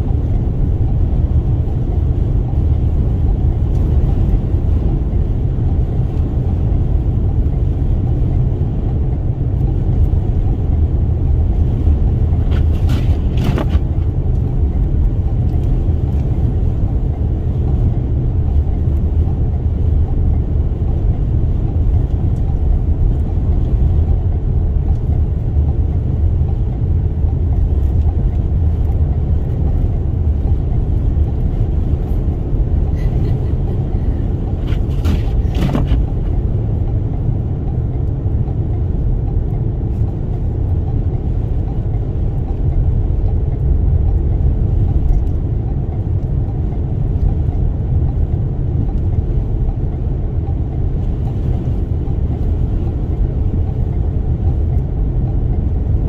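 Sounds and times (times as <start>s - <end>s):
road tyre and wind noise: 0.0s - 56.0s.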